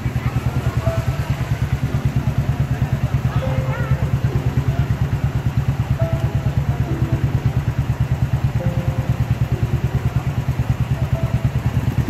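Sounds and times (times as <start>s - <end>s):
faint distant voices: 0.0s - 12.0s
small engine idling: 0.0s - 12.0s.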